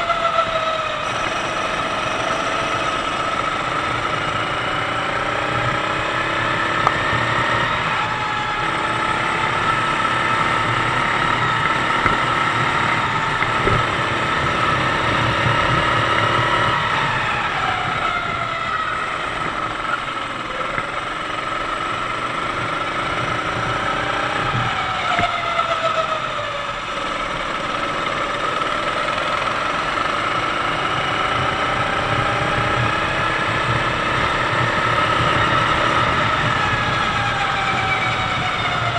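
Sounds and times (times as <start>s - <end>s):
kart engine running: 0.0s - 38.9s.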